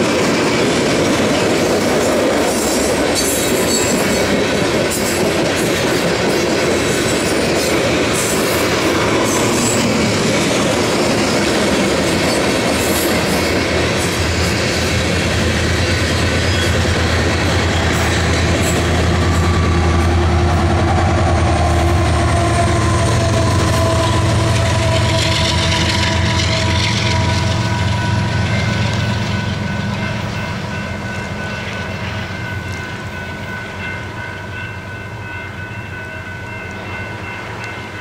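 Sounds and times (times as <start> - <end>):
train rolling with wheel clatter: 0.0 - 38.0
crossing warning bell ringing: 2.4 - 38.0.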